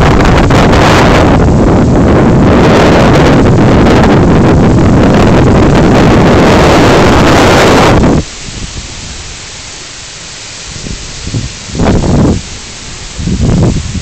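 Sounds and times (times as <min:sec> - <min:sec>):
wind buffeting microphone: 0:00.0 - 0:09.8, 0:10.6 - 0:14.0
hiss of rain: 0:00.0 - 0:14.0.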